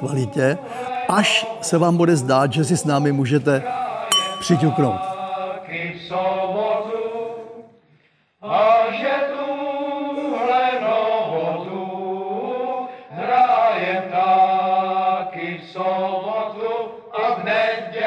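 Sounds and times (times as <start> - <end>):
group of voices singing: 0.0 - 18.0.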